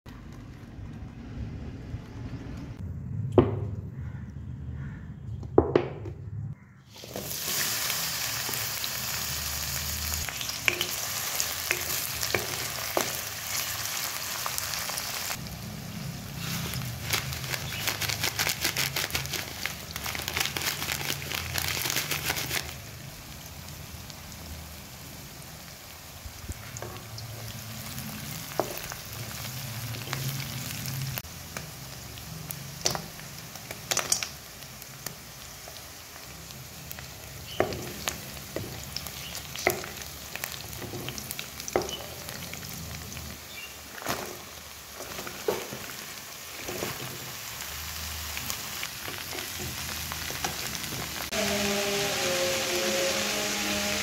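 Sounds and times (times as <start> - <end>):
seeds spluttering in oil: 6.9 - 51.8
food frying in hot oil: 6.9 - 54.0.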